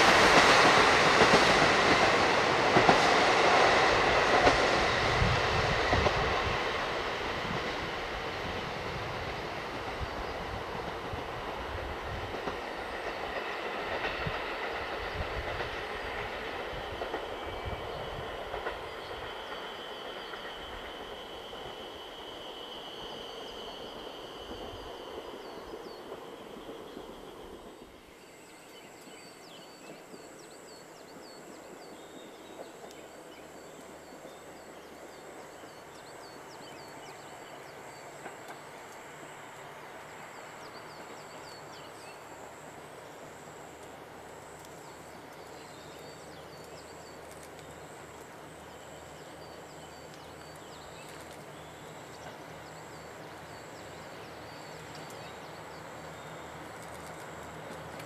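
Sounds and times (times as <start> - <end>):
distant diesel train engine drone: 0.0 - 58.0.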